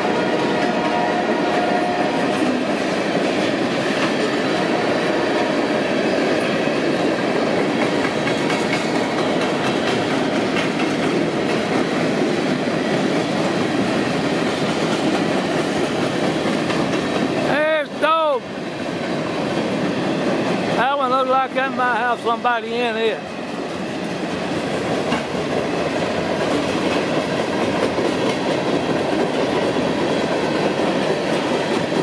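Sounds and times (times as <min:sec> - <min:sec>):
freight train rolling past: 0:00.0 - 0:32.0
steel wheels on rails: 0:00.0 - 0:32.0.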